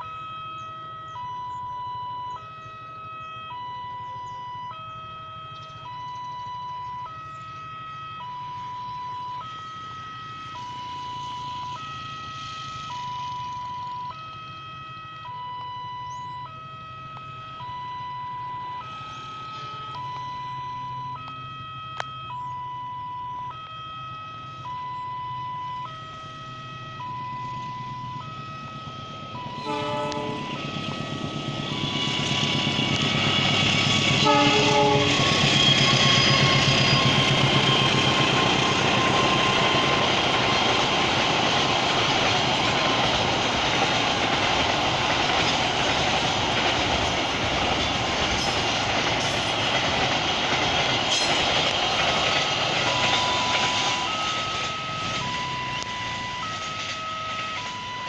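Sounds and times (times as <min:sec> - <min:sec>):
level crossing alarm two-tone: 0:00.0 - 0:41.9, 0:51.2 - 0:58.0.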